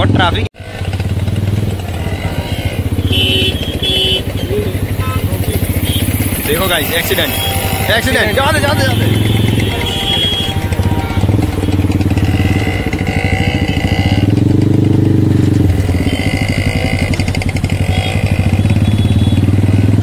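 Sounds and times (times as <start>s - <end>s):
vehicles passing: 0.0s - 20.0s
small engine running: 0.6s - 20.0s.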